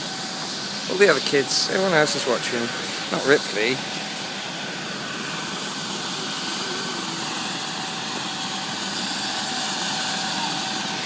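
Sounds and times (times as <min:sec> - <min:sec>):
helicopter running: 0:00.0 - 0:11.0.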